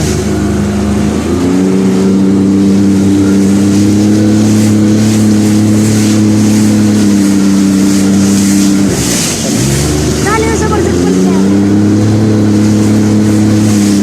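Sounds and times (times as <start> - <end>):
jet ski engine running: 0.0 - 14.0.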